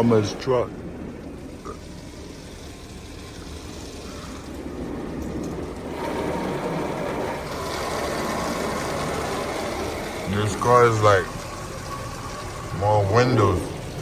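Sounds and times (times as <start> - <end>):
low rumble with hiss: 0.0 - 14.0.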